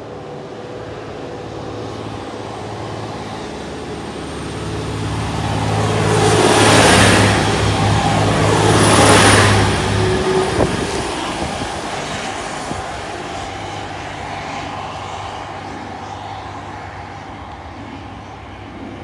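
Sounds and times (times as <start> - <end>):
train passing with hum: 0.0 - 19.0.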